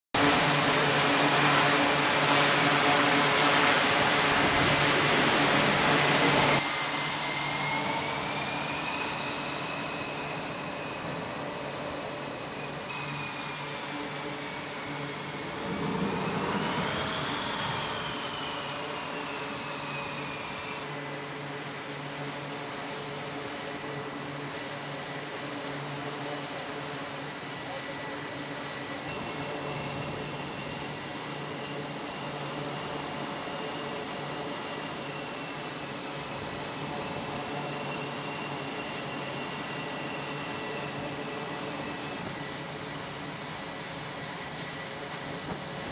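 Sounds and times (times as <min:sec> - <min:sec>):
high turbine whine: 0:00.2 - 0:45.9
loud jet engine noise: 0:00.2 - 0:45.9.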